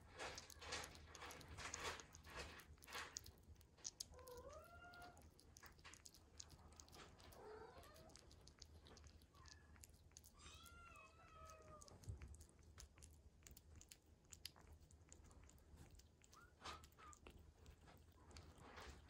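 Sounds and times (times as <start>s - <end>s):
kitten chewing and lapping food: 0.0s - 19.0s.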